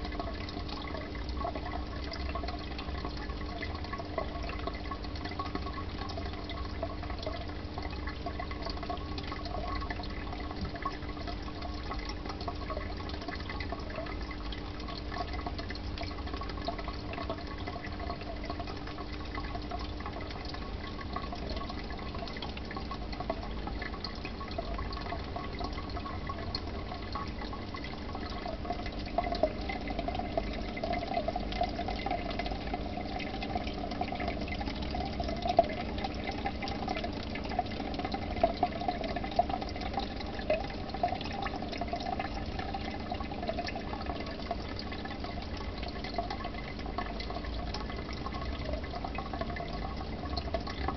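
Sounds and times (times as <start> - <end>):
aquarium water bubbling: 0.0 - 50.9
steady hum: 0.0 - 50.9.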